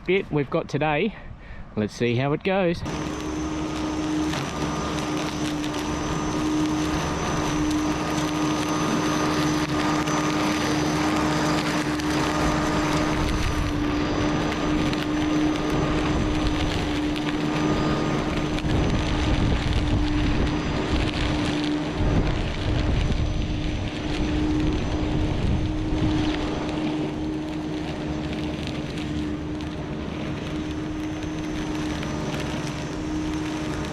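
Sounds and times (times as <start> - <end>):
electric lawn mower cutting grass: 2.8 - 33.9.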